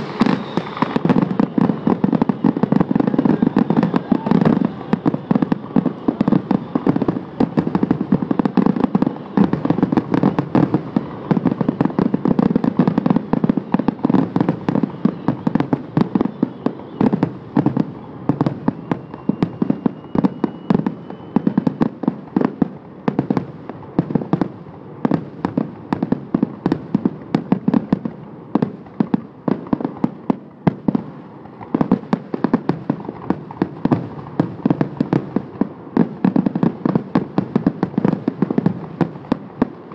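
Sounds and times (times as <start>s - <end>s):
firework whistle: 0.0s - 39.9s
fireworks bangs and crackles: 0.0s - 39.9s.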